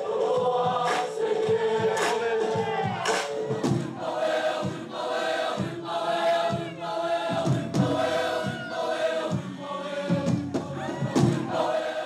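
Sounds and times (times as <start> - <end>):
boys singing and chanting: 0.0 - 12.0.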